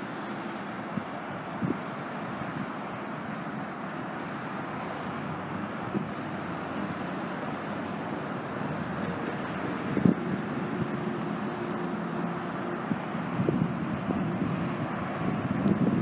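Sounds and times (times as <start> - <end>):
bus pulling away: 0.0 - 16.0
traffic noise: 0.0 - 16.0.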